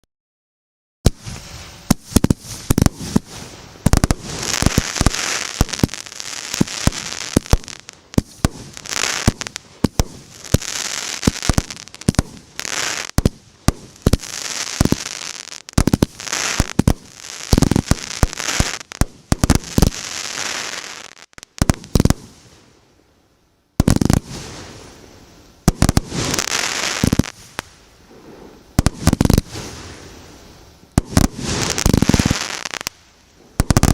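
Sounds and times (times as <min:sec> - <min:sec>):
firework bangs: 0:01.0 - 0:22.5, 0:23.8 - 0:25.0, 0:25.6 - 0:33.9
firework hissing crackle: 0:01.0 - 0:23.0, 0:23.8 - 0:33.9.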